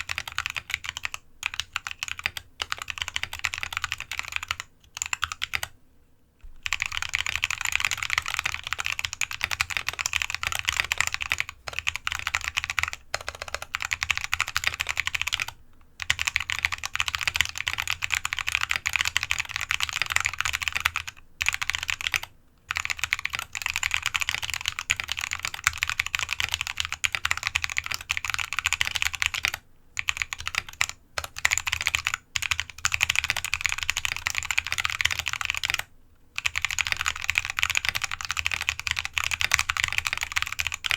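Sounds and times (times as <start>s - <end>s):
fast typing on mechanical keyboard: 0.0s - 5.8s, 6.6s - 40.9s.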